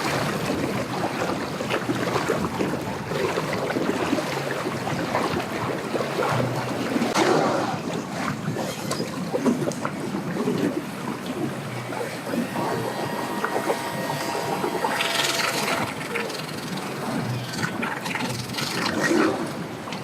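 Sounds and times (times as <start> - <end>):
outboard motor running: 0.0 - 20.0
waves splashing against dock: 0.0 - 20.0
wind buffeting microphone: 0.0 - 20.0.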